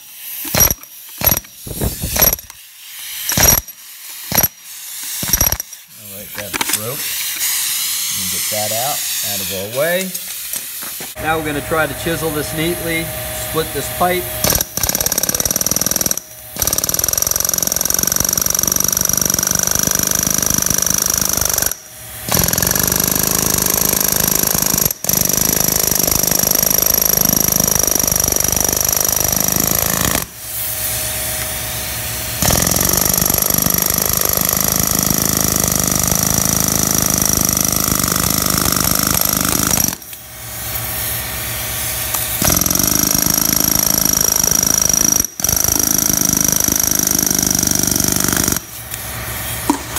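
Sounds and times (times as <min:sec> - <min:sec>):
pneumatic air hammer: 0:00.0 - 0:11.2, 0:12.2 - 0:49.9.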